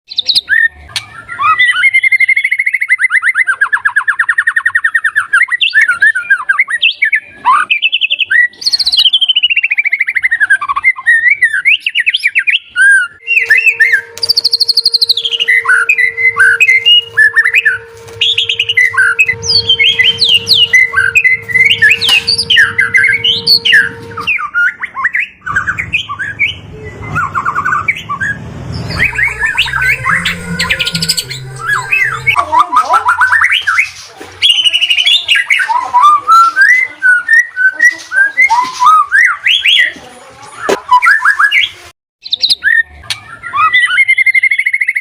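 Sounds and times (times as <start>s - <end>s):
songbird singing trills: 0.1s - 40.0s.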